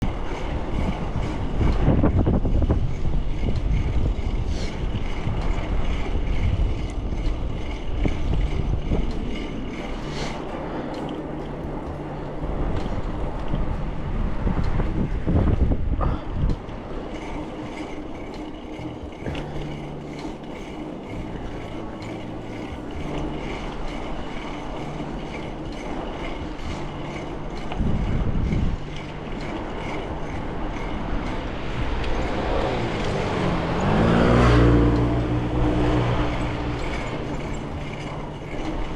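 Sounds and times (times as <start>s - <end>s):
low engine-like hum: 0.0s - 38.9s
low rumbles: 0.0s - 38.9s
road traffic noise: 0.0s - 38.9s.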